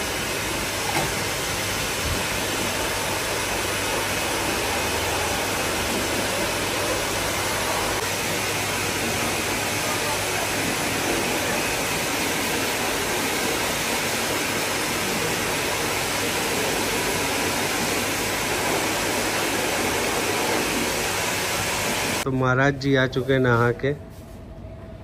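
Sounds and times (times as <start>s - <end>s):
pet grooming dryer blowing air: 0.0s - 22.3s.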